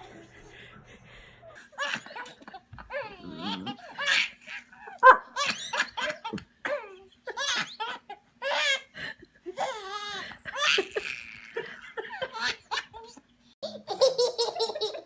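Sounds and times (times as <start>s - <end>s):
baby laughing: 1.6s - 8.9s, 9.5s - 15.0s.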